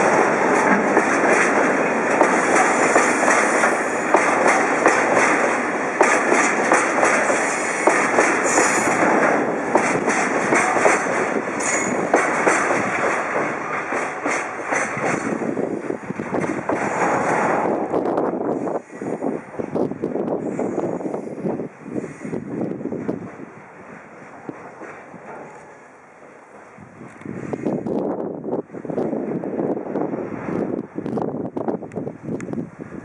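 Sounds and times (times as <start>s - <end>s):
rail joint clicks: 0.0s - 32.8s
freight train wheels rumbling: 0.0s - 33.0s.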